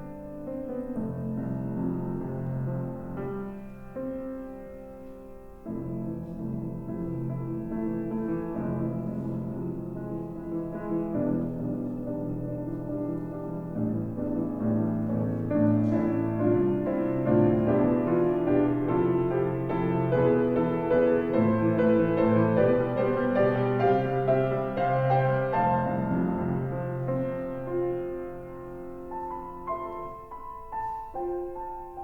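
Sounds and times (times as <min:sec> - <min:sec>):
slow piano music: 0:00.0 - 0:32.0.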